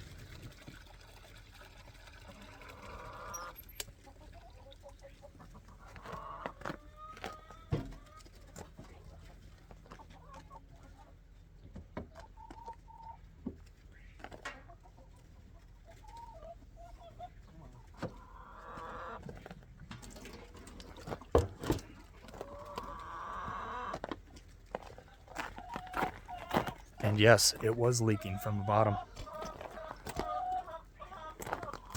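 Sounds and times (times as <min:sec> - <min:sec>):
chickens clucking: 0:02.3 - 0:31.9.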